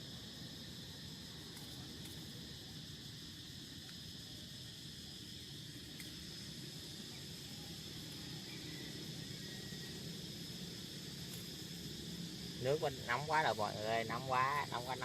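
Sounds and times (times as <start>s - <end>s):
insect trilling: 0.0s - 15.0s.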